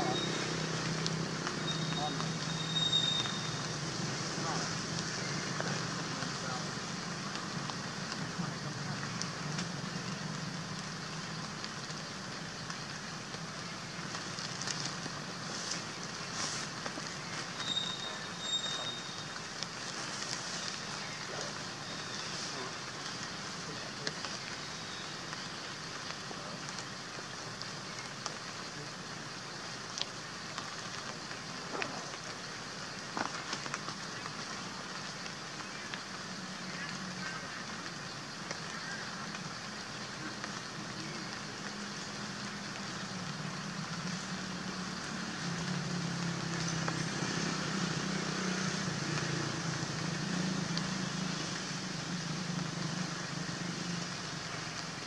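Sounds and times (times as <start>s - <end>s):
outdoor background hiss: 0.0s - 55.0s
scattered crackles and ticks: 0.0s - 55.0s.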